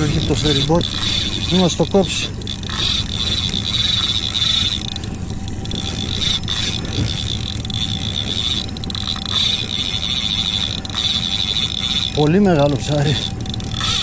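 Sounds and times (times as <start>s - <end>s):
boat engine hum: 0.0s - 14.0s
fishing reel drag buzzing: 0.0s - 14.0s.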